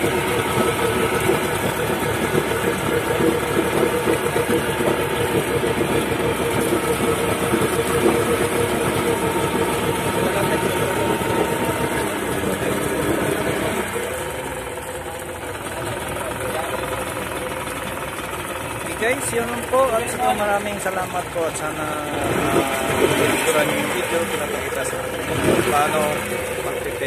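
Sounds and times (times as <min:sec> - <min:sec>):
outboard motor running: 0:00.0 - 0:27.0
water churning and splashing: 0:00.0 - 0:27.0.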